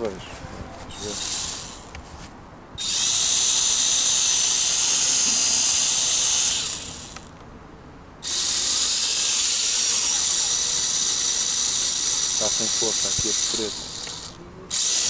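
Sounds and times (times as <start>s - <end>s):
quadcopter motors whining: 0.9s - 2.0s, 2.8s - 7.3s, 8.2s - 15.0s.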